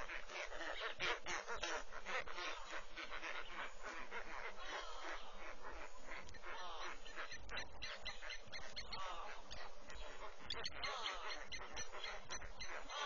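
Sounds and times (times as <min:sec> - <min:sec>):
birds chattering chorus: 0:00.0 - 0:13.0.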